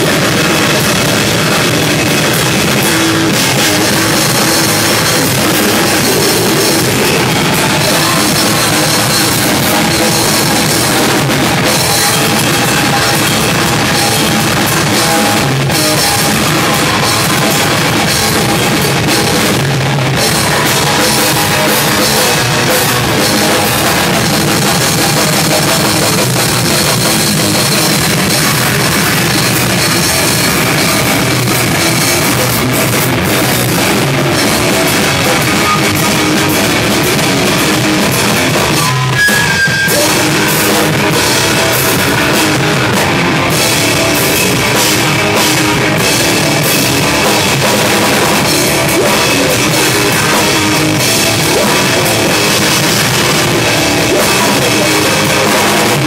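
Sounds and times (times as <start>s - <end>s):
drum kit with cymbals: 0.0s - 56.0s
electric guitar: 0.0s - 56.0s.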